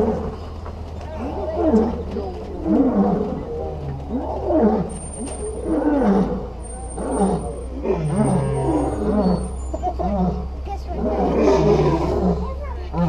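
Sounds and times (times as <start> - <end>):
lions roaring: 0.0 - 13.0.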